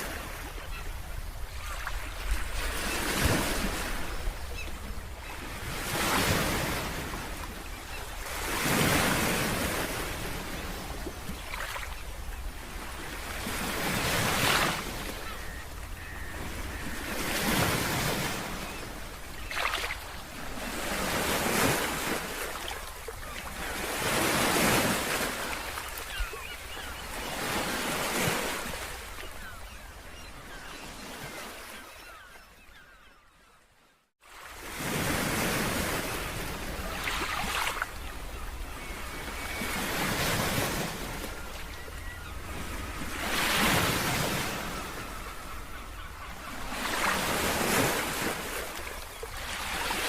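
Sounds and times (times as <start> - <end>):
waves breaking: 0.0 - 29.7, 34.3 - 50.0.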